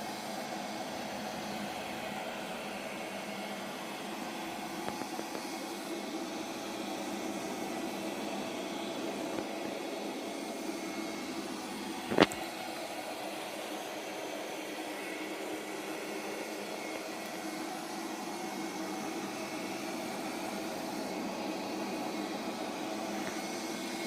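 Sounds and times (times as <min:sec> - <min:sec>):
robot vacuum cleaner whirring: 0:00.0 - 0:24.0.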